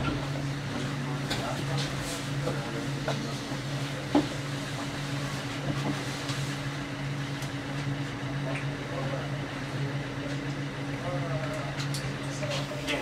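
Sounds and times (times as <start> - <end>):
tram electrical hum: 0.0 - 13.0.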